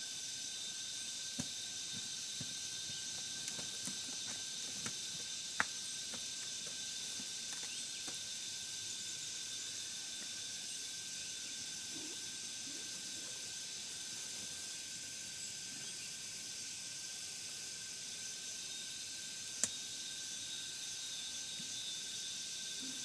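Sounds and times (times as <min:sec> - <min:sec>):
forest insects chorus: 0:00.0 - 0:23.0.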